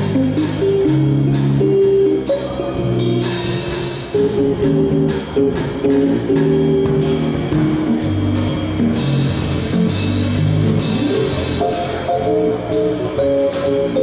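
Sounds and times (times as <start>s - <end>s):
drum kit with cymbal strokes: 0.0s - 14.0s
keyboard notes and chords: 0.0s - 14.0s.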